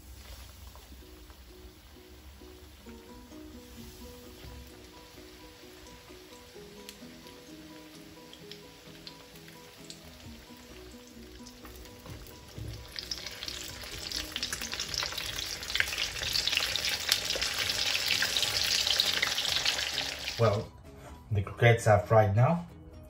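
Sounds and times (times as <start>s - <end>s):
food deep-frying in oil: 0.0s - 20.7s.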